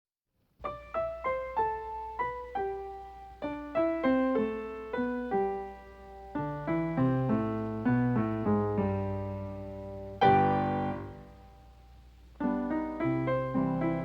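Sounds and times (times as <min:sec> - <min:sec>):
piano melody: 0:00.6 - 0:14.0.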